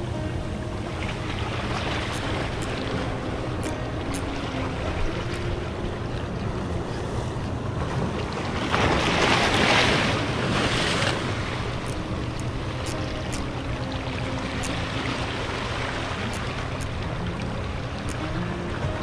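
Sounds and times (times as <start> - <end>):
sea waves washing against rocks: 0.0 - 19.0.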